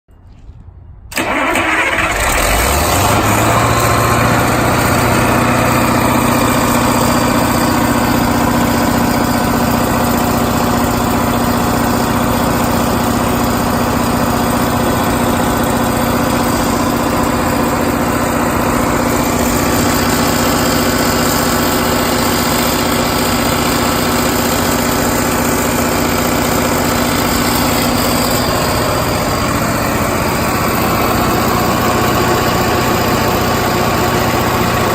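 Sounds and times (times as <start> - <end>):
diesel generator engine running: 0.4 - 34.9.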